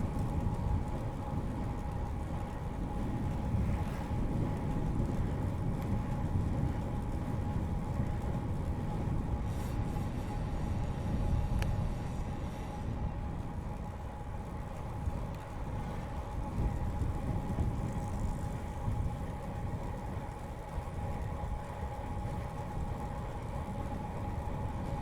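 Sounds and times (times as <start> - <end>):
bicycle humming: 0.0 - 25.0
wind buffeting microphone: 0.0 - 25.0.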